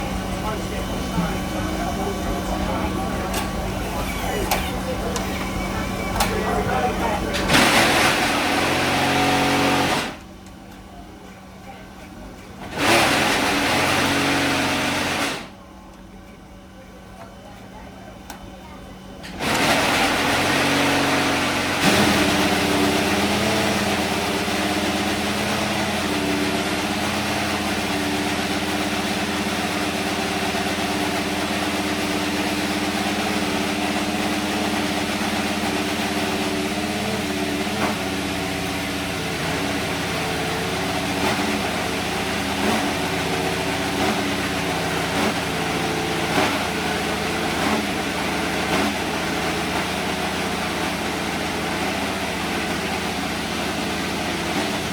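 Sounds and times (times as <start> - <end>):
engine revving: 0.0 - 10.2, 12.6 - 15.5, 19.3 - 54.9
racing car engine idling: 0.0 - 54.9.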